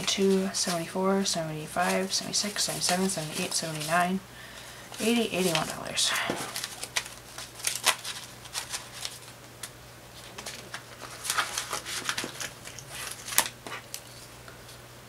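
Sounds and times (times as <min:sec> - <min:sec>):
paper banknotes rustling: 0:00.0 - 0:14.8
pages turning: 0:01.8 - 0:04.1, 0:04.9 - 0:14.8.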